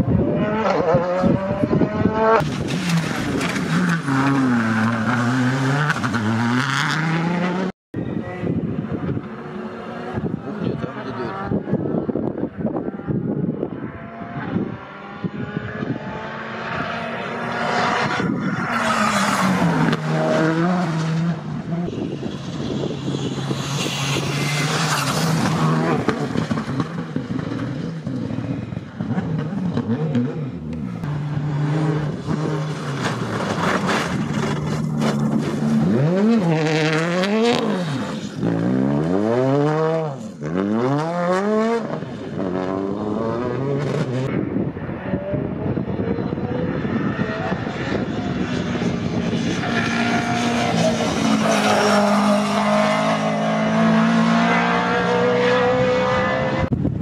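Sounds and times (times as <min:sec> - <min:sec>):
rally cars revving past: 0:00.0 - 0:56.9.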